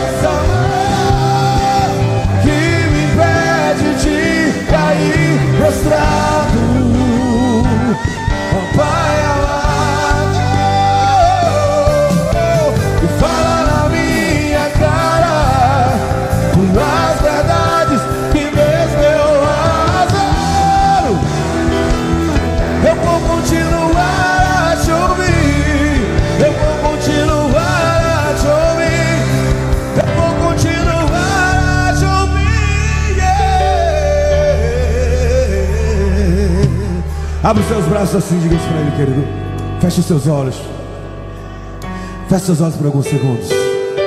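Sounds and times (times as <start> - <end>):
man singing: 0.0 - 41.0
worship band playing: 0.0 - 44.0.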